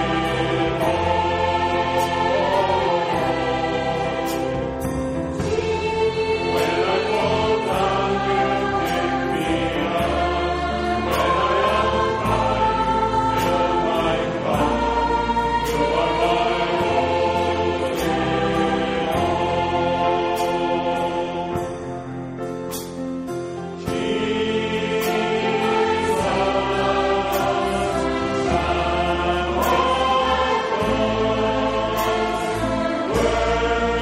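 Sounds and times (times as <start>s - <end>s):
choir singing a hymn: 0.0s - 21.9s, 23.7s - 34.0s.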